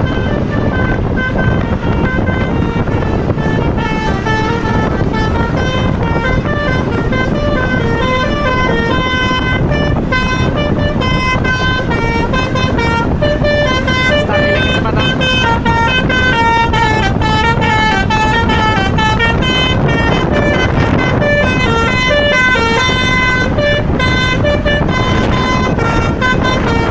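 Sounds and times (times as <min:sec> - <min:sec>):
multi-note air horn tune: 0:00.0 - 0:26.9
steady low rumble: 0:00.0 - 0:26.9.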